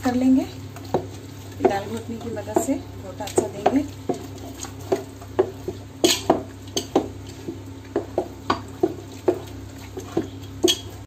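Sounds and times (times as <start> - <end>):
masher pounding in metal pot: 0.9 - 11.0.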